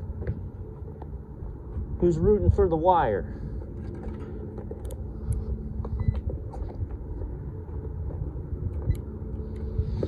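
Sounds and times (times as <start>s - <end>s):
faint constant hum: 0.0s - 10.0s
steady low rumble: 0.0s - 10.0s.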